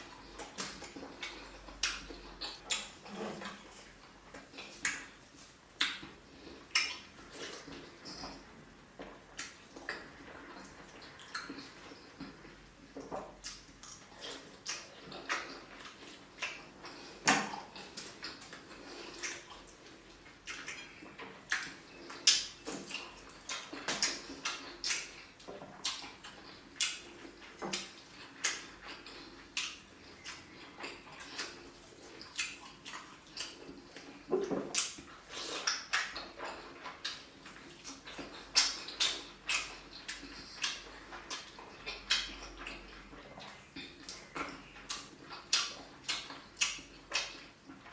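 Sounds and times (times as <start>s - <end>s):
mouth smacks: 0.0s - 8.4s, 9.0s - 47.9s
slurping: 0.0s - 47.9s
wet chewing: 0.0s - 47.9s.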